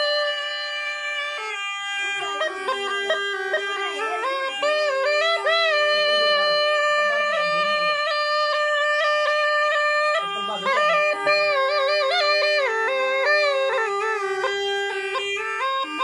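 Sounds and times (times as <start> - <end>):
reedy double pipe melody with drone: 0.0 - 16.0.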